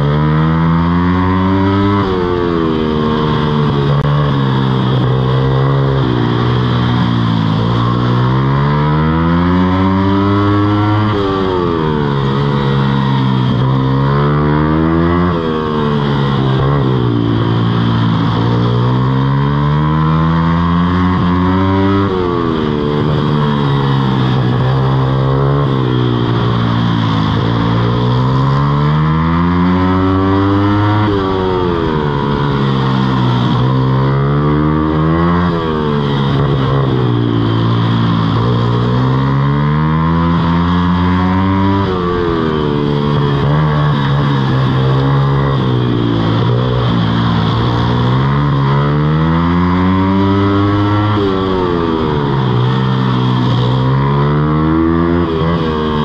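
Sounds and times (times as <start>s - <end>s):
mini motorbike engine revving: 0.0s - 56.0s.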